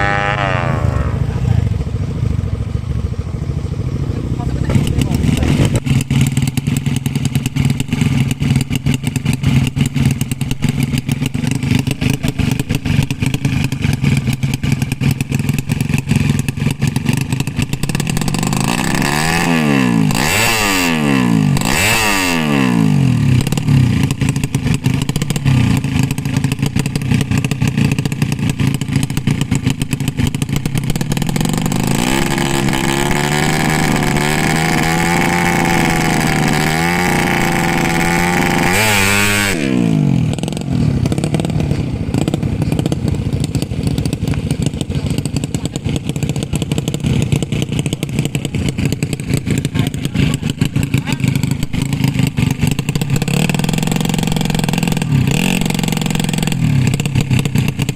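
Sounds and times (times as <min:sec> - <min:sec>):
motorcycles passing by: 0:00.0 - 0:57.9
racing motorcycle engines revving: 0:00.0 - 0:57.9.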